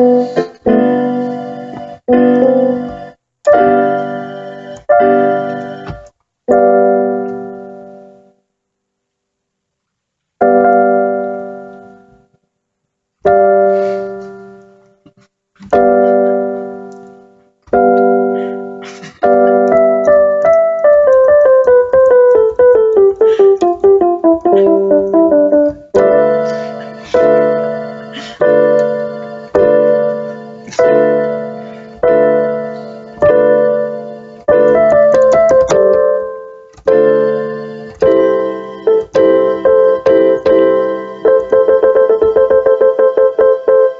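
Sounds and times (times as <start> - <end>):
solo piano music: 0.0 - 8.4, 10.4 - 12.3, 13.2 - 15.0, 15.7 - 43.9.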